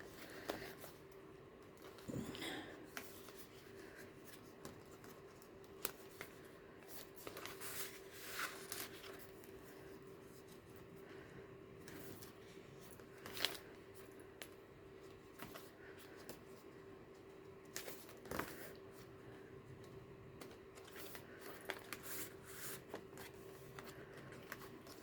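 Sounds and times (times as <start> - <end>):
faint steady hum: 0.0 - 25.0
paper pages rustling: 2.8 - 11.2, 11.8 - 25.0.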